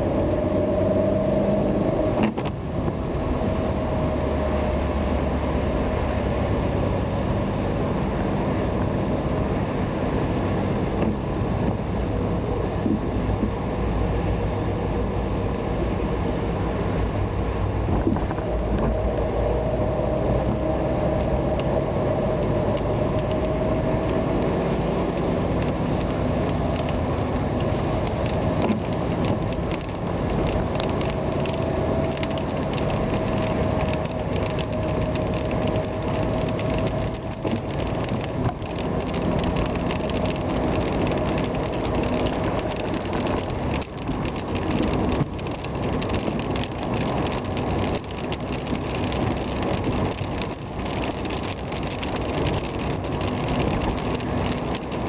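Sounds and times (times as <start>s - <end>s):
vehicle on wet road: 0.0s - 55.0s.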